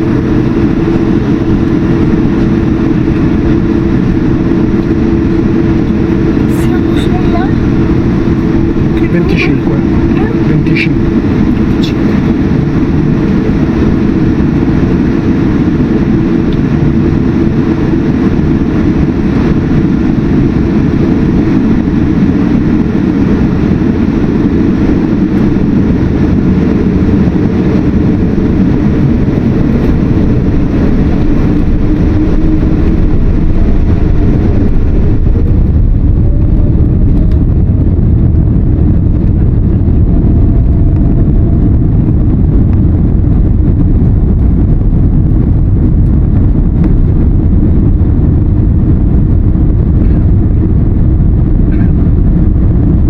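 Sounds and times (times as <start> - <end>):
jet engines inside cabin: 0.0 - 53.0.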